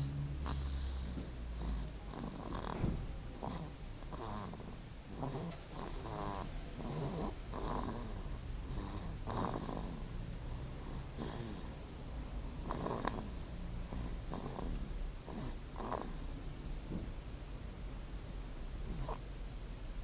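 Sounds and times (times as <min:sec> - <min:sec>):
baby snoring: 0:00.0 - 0:16.4, 0:18.8 - 0:19.3.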